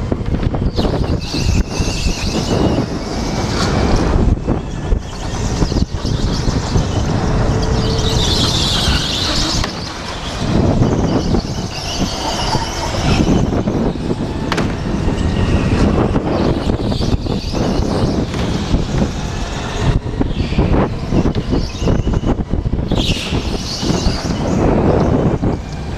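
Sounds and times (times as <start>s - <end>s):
go-kart running noise: 0.0s - 25.9s
wind on microphone: 0.0s - 25.9s.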